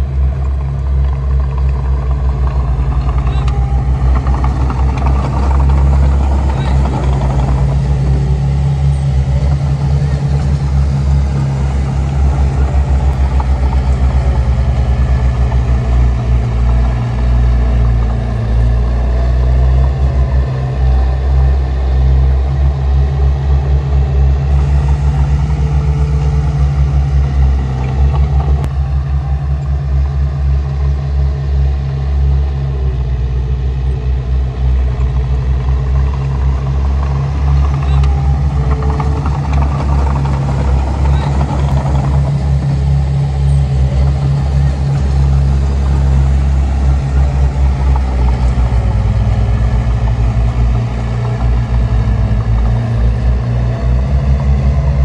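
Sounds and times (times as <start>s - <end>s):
heavy diesel machinery droning: 0.0s - 55.0s.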